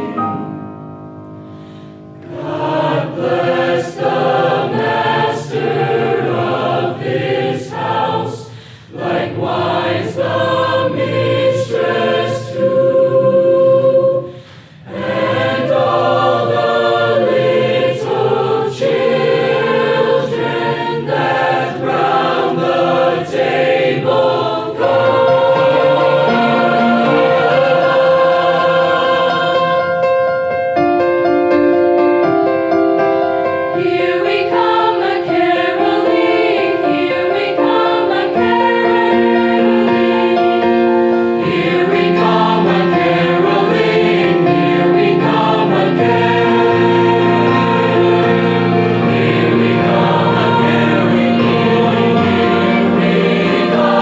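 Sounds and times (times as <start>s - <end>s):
choir singing: 0.0s - 1.0s, 1.9s - 30.6s, 33.4s - 54.0s.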